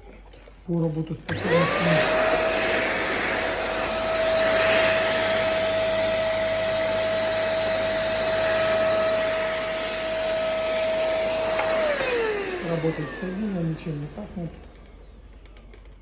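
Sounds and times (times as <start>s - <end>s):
vacuum cleaner running: 1.2s - 16.0s.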